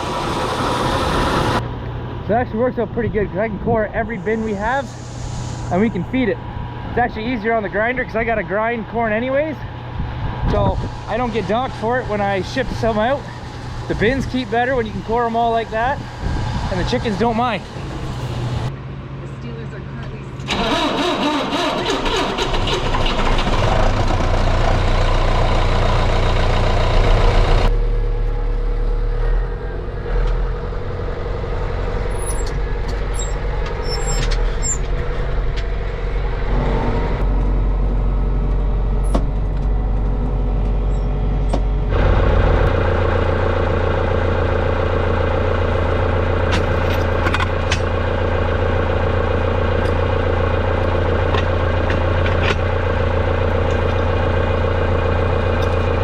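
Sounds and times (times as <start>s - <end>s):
heavy machinery engines running: 0.0s - 56.0s.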